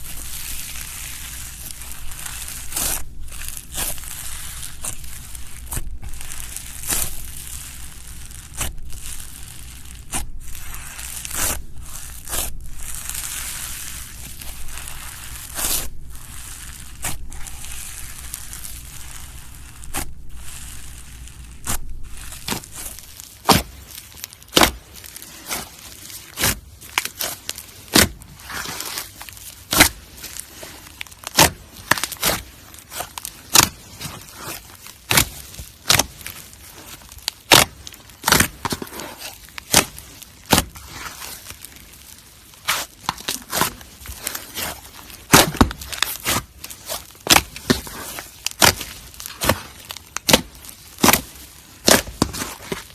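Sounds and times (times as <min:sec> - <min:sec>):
slime being squished by hand: 0:00.0 - 0:52.9
slime crackling and clicking: 0:00.4 - 0:52.9.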